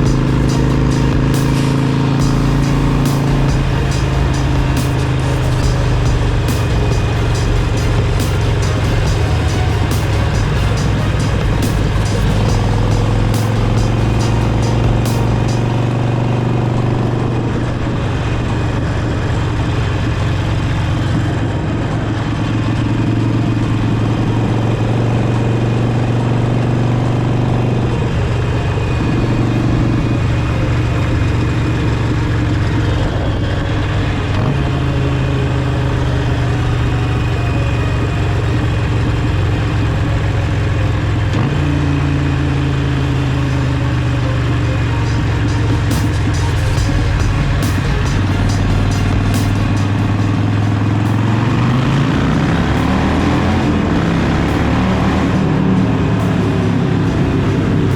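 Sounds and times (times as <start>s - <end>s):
motorcycle engine running: 0.0s - 25.6s, 26.2s - 57.9s
road and wind noise: 0.0s - 57.9s.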